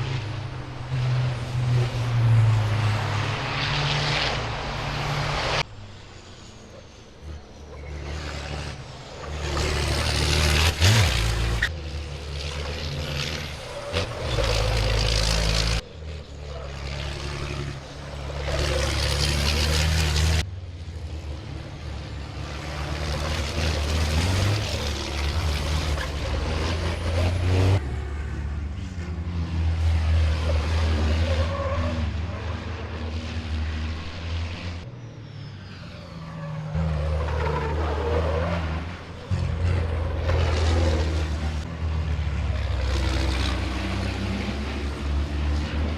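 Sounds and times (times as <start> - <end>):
racing truck engines passing: 0.0 - 45.9.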